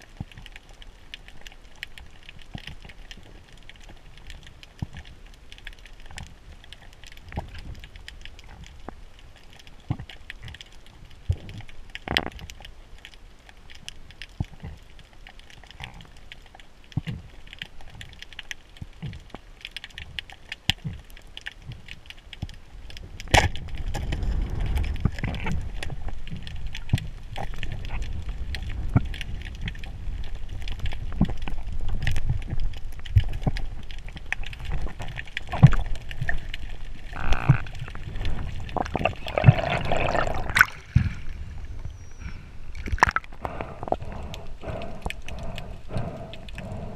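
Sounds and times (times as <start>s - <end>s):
underwater crackling and clicks: 0.0s - 46.9s.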